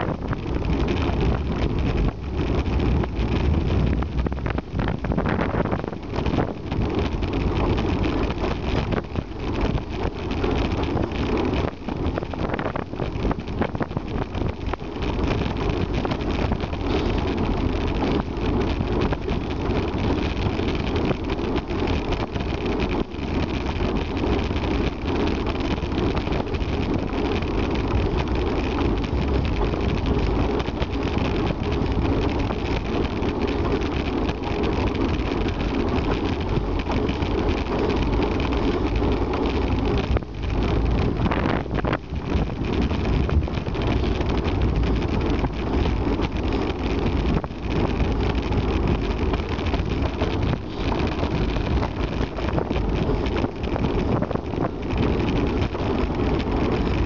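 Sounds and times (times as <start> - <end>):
tyre and road rumble: 0.0 - 57.0
wind rushing over microphone: 0.0 - 57.0.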